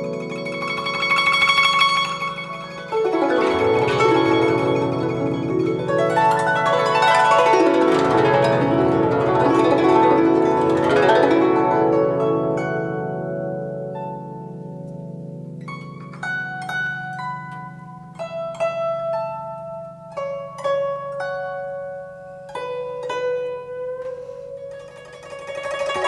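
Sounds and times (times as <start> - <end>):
plucked zither melody: 0.0 - 26.0.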